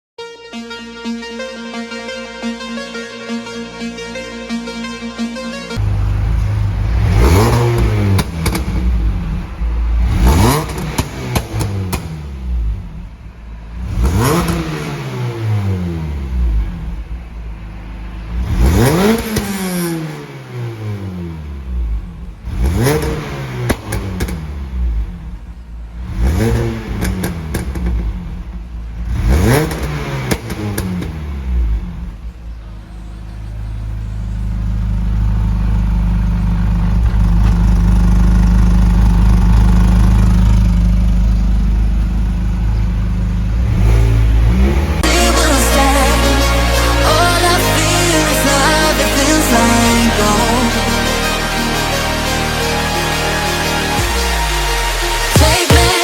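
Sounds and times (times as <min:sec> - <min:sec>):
exhaust crackles: 0:01.0 - 0:56.0
car engine revving: 0:01.3 - 0:56.0.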